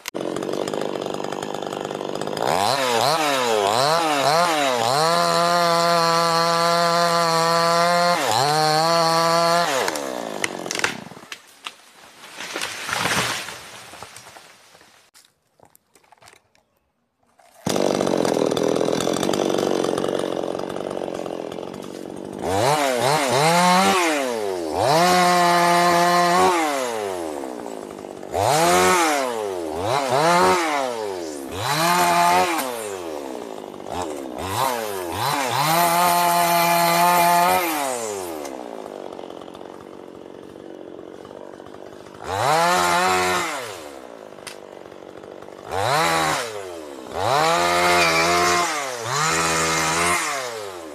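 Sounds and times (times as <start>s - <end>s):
chainsaw revving: 0.0s - 11.3s, 17.4s - 50.9s.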